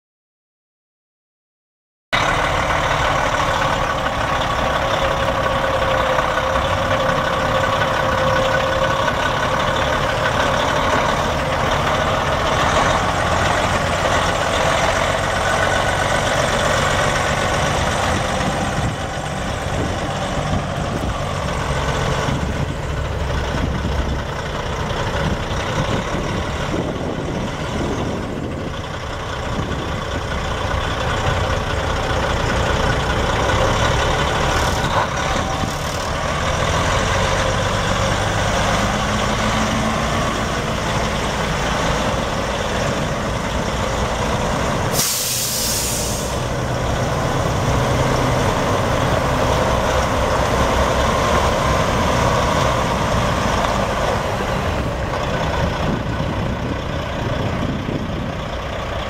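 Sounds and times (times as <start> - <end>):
diesel truck engine running: 2.2 - 59.0.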